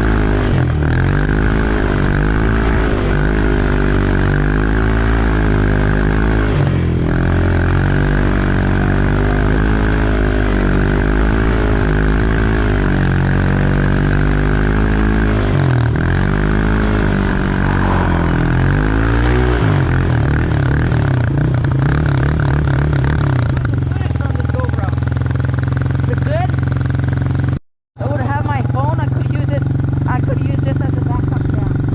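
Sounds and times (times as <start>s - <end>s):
snowblower engine running: 0.0s - 31.9s.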